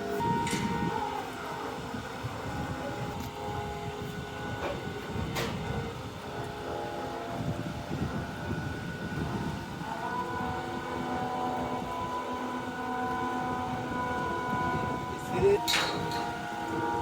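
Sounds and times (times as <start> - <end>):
ship machinery rumbling: 0.0 - 17.0.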